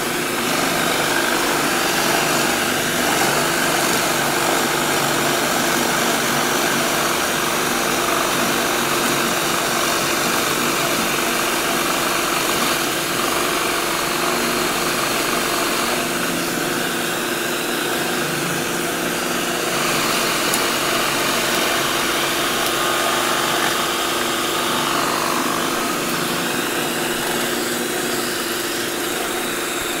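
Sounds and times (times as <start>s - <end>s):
drill press boring wood: 0.0s - 30.0s
shop vacuum running: 0.0s - 30.0s.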